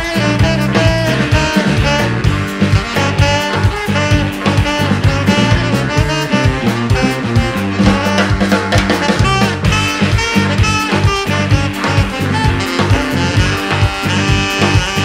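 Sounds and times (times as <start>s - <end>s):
drums keeping steady beat: 0.0s - 15.0s
saxophone lines: 0.0s - 15.0s
stepping bass line: 0.0s - 15.0s.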